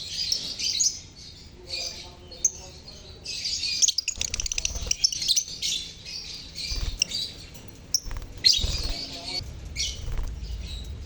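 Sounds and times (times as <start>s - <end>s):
lovebirds chattering: 0.0s - 11.0s.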